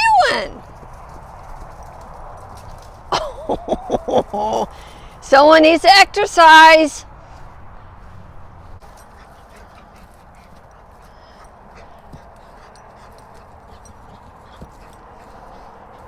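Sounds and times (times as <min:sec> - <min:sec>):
horse hoofbeats: 0:00.0 - 0:06.5, 0:08.8 - 0:16.0.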